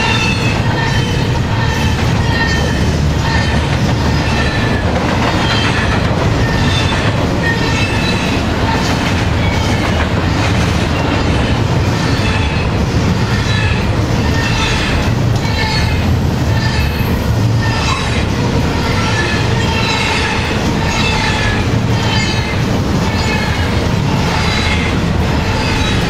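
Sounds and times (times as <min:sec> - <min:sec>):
train cars rolling past: 0:00.0 - 0:26.0
train wheel squeaks: 0:00.0 - 0:26.0.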